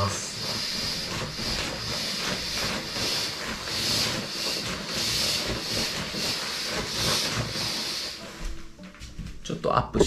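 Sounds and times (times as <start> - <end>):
air hissing from mat valve: 0.0 - 8.7.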